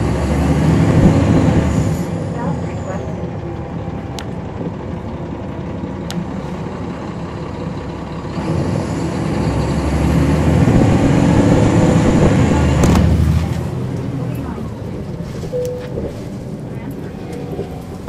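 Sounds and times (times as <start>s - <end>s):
diesel bus engine accelerating: 0.0s - 18.0s.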